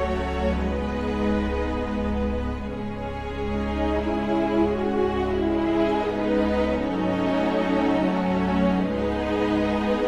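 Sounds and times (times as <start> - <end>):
slow sad orchestral music: 0.0 - 10.0.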